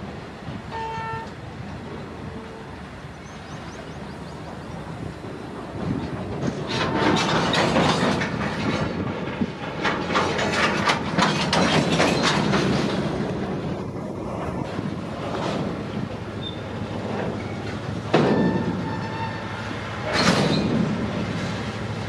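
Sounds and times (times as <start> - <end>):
diesel locomotive engine rumble: 0.0 - 22.0
train wheels clicking over rail joints: 3.6 - 22.0.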